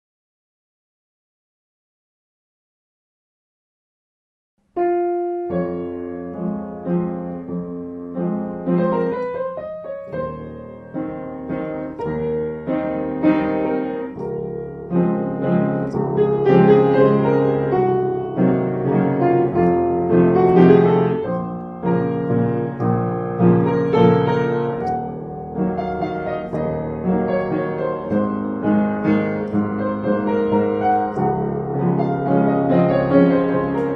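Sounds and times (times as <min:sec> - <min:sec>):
upright piano waltz: 0:04.8 - 0:33.9.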